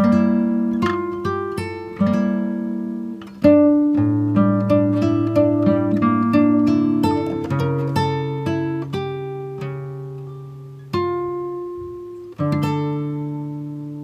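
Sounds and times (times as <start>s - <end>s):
acoustic guitar piece: 0.0s - 14.0s.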